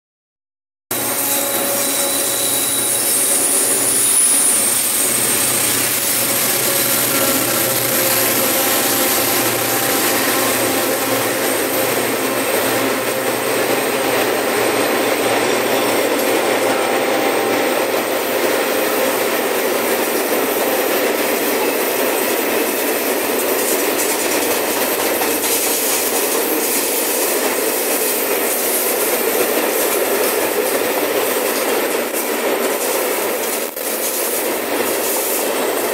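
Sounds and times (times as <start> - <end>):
diesel locomotive engine whine: 0.9 - 35.9
train wagons rolling on rails: 0.9 - 35.9.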